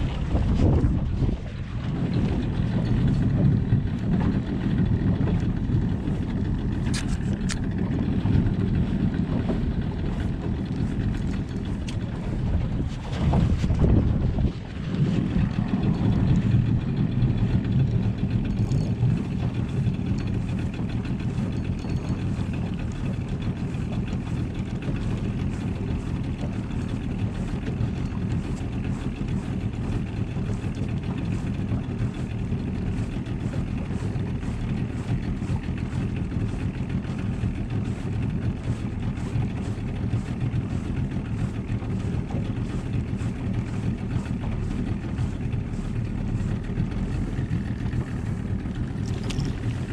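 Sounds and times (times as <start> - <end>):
boat motor droning: 0.0 - 49.9
water noise: 0.0 - 49.9
wind: 0.0 - 49.9.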